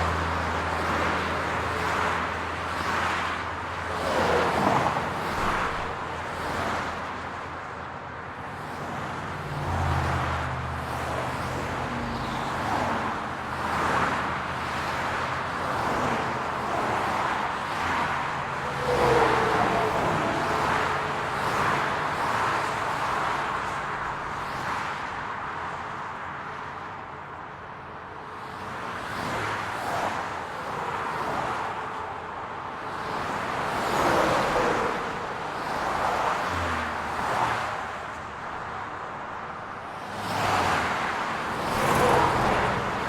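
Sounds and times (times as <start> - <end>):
cars passing: 0.0 - 43.0
hum of tyre and engine noise: 0.0 - 43.0.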